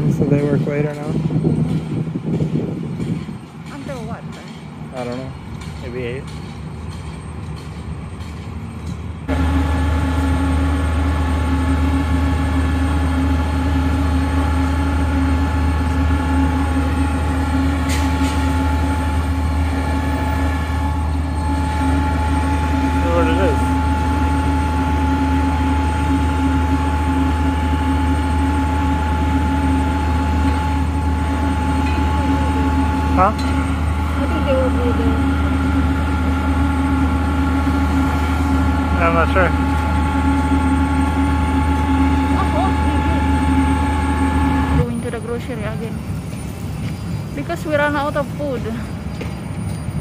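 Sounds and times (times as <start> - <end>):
heavy construction machinery droning: 0.0 - 50.0.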